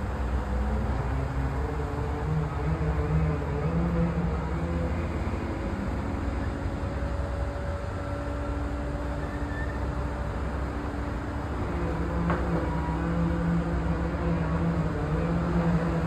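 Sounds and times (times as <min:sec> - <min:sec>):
diesel machinery rumbling: 0:00.0 - 0:16.0.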